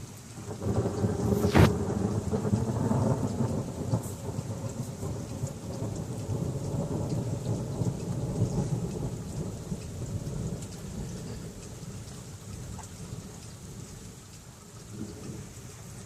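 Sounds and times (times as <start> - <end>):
steady rain: 0.0 - 16.0
thunder rumbling: 0.5 - 14.2, 14.8 - 16.0.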